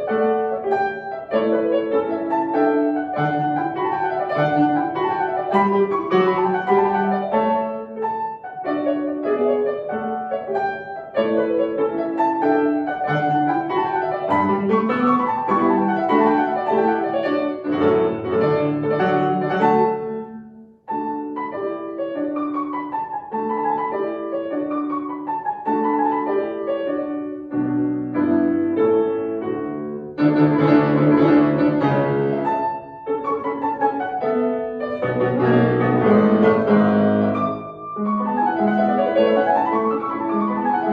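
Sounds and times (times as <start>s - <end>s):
solo piano classical piece: 0.0s - 40.9s.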